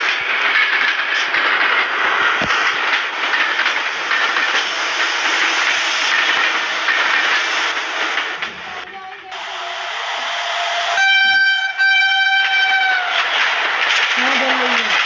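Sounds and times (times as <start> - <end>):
train wheels rushing on track: 0.0 - 15.0.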